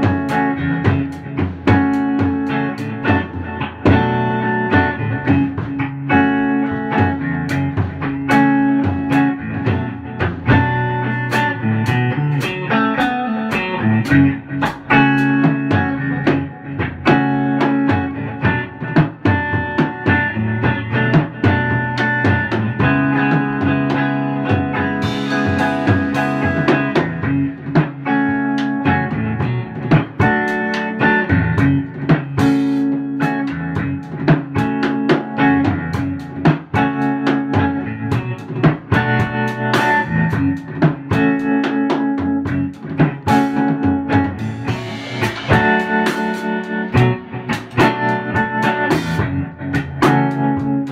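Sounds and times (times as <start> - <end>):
drum kit steady beat: 0.0 - 50.9
electric guitar playing: 0.0 - 50.9.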